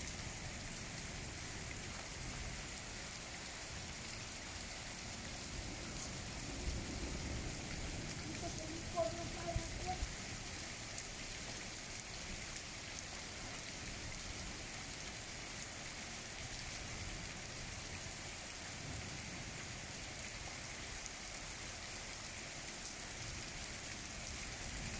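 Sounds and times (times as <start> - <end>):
rain on muddy ground: 0.0 - 24.9.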